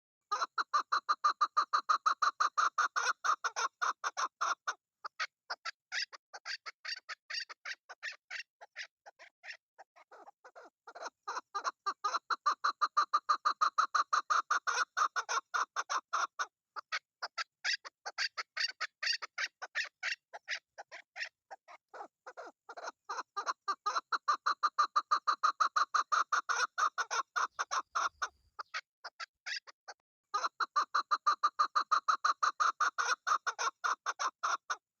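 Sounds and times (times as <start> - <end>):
partridge chuck calls: 0.3 - 35.0.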